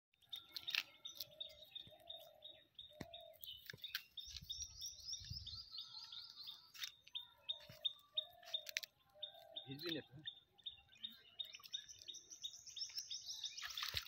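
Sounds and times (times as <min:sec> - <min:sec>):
lower bird calls: 0:00.3 - 0:14.0.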